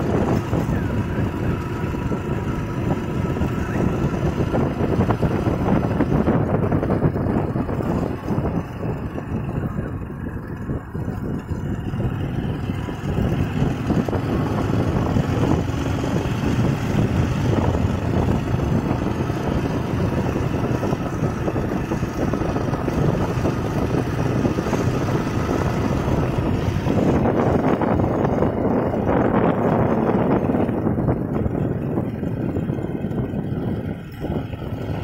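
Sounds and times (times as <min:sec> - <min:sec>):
motorbike engine running: 0:00.0 - 0:35.0
wind on microphone: 0:00.0 - 0:35.0.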